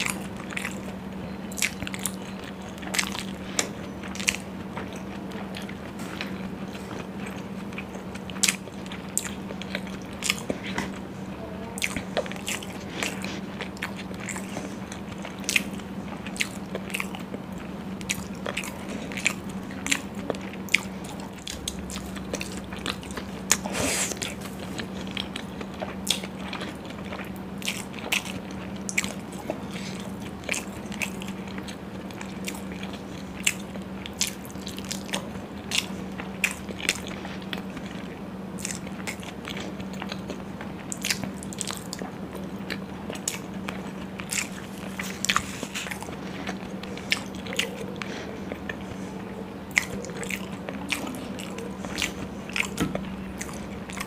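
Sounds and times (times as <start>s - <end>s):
chewing soft food: 0.0s - 54.0s
steady low hum: 0.0s - 54.0s.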